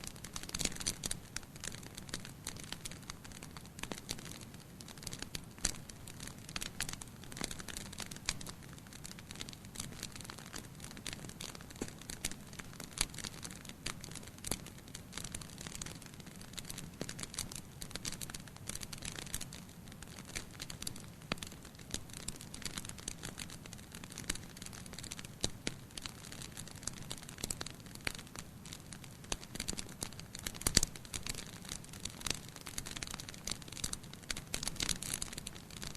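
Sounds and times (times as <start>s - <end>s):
campfire crackling: 0.0s - 35.9s
low rumble of flames: 0.0s - 35.9s.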